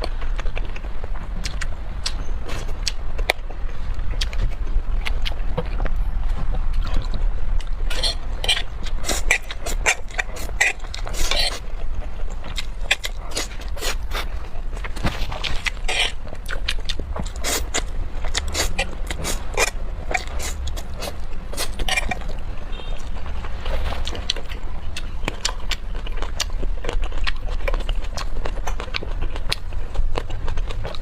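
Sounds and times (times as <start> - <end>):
biting and chewing: 0.0 - 31.0
low steady hum: 0.0 - 31.0.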